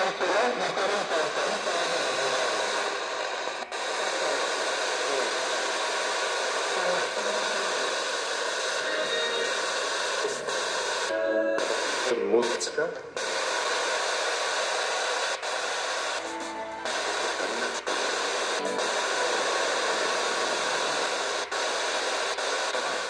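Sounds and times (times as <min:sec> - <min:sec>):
radio static hissing: 0:00.0 - 0:23.0.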